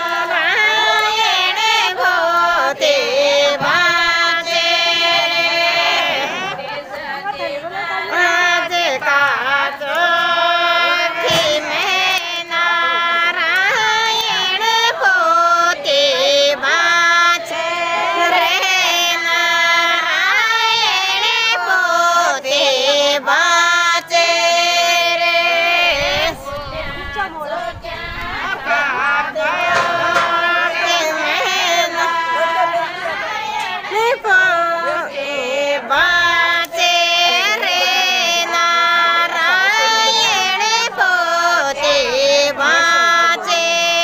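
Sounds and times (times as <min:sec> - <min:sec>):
women singing folk song: 0:00.0 - 0:44.0.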